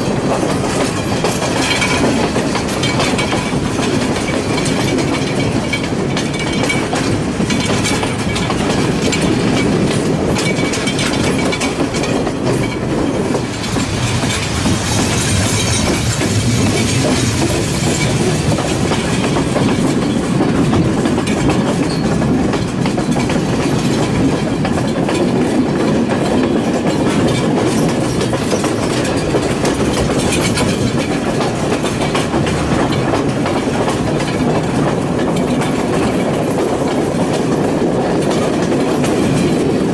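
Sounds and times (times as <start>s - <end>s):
train rumble and rattle: 0.0s - 39.9s
wheels clacking over rail joints: 0.0s - 39.9s.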